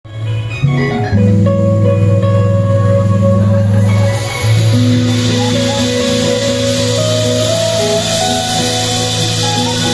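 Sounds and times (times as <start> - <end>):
guitar picking single notes: 0.1 - 9.9.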